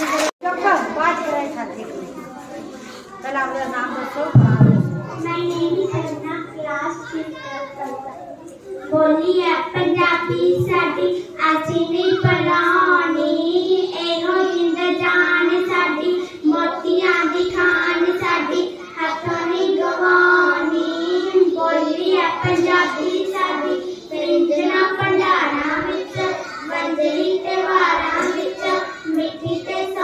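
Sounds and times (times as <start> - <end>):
child singing: 4.3 - 30.0.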